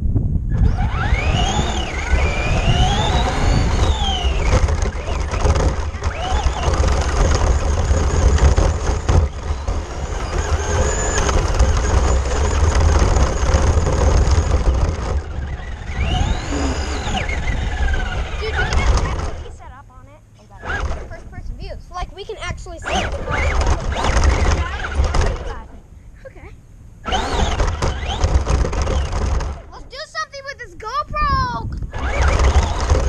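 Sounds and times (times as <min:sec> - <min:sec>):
low rumble of vibration: 0:00.0 - 0:33.0
toy car motor whining: 0:00.5 - 0:19.5, 0:20.5 - 0:21.3, 0:22.7 - 0:25.6, 0:27.0 - 0:30.2, 0:31.9 - 0:33.0.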